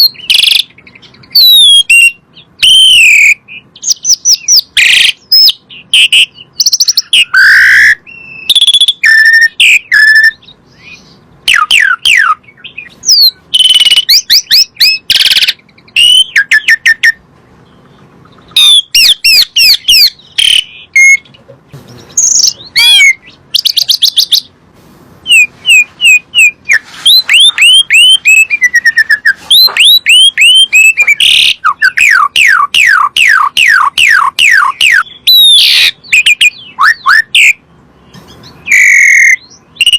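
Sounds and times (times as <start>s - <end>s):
starling singing: 0.0s - 24.6s, 25.2s - 39.9s.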